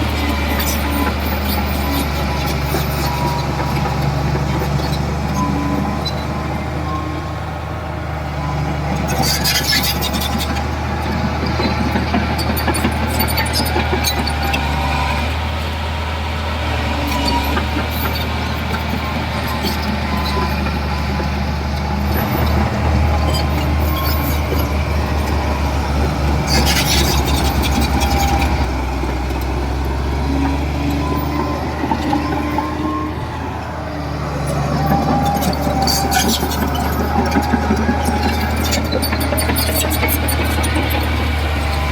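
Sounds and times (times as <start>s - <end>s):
metallic clanks and squeaks: 0.0s - 7.3s, 8.4s - 15.4s, 16.8s - 41.9s
diesel machinery droning: 0.0s - 41.9s.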